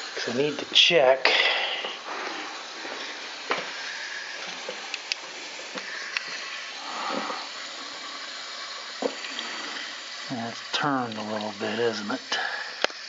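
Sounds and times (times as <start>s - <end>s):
water flowing hiss: 0.0s - 13.0s.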